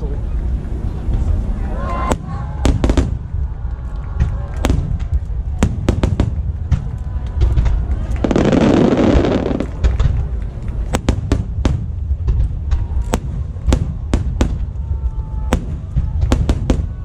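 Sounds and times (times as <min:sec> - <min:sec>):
continuous low rumble: 0:00.0 - 0:17.0
fireworks bangs and cracks: 0:02.1 - 0:17.0
fireworks crackling: 0:02.1 - 0:17.0.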